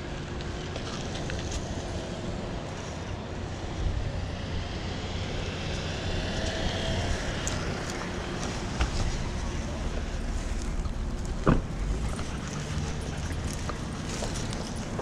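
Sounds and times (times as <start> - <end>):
street noise: 0.0 - 15.0
wind rumbling on microphone: 0.0 - 15.0
car passing: 0.6 - 15.0.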